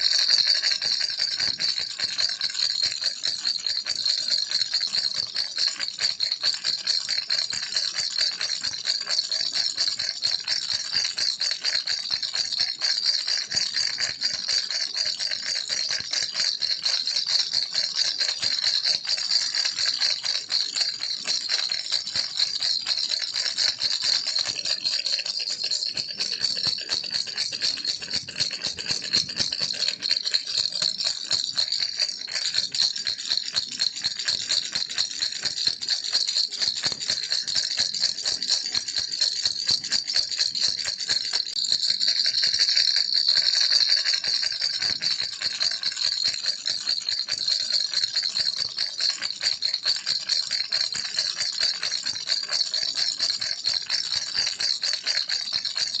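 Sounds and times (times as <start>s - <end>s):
toy rattle shaken: 0.0s - 56.0s.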